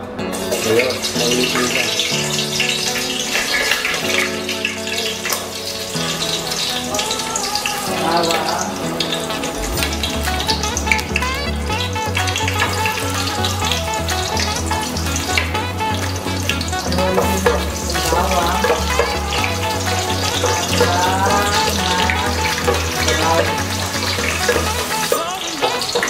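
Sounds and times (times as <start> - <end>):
garlic sizzling in hot oil: 0.3 - 11.3, 12.3 - 26.0.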